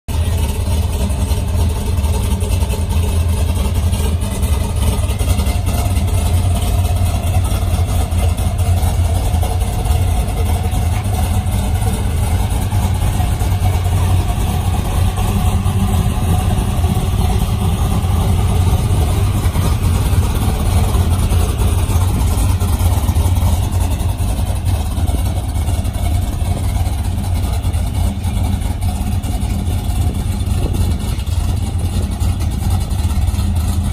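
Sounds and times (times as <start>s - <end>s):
pickup engine idling: 0.1s - 33.9s.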